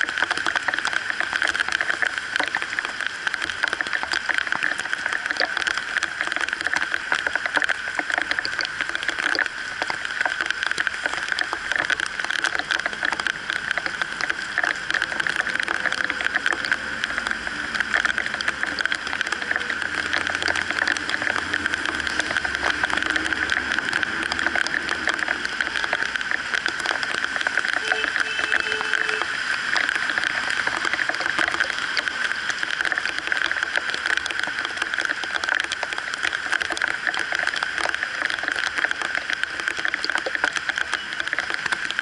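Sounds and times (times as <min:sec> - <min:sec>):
heavy rain on wet road: 0:00.0 - 0:42.0
traffic on wet street: 0:00.0 - 0:42.0.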